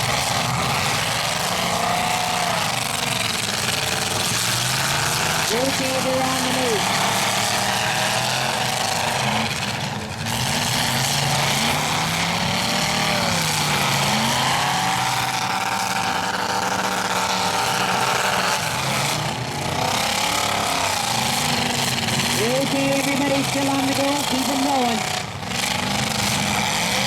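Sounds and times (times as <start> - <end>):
truck engines revving: 0.0 - 27.0.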